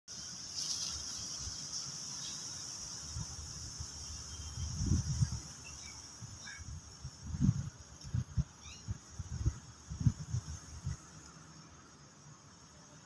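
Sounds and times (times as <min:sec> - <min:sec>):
high-pitched insect drone: 0:00.1 - 0:13.0.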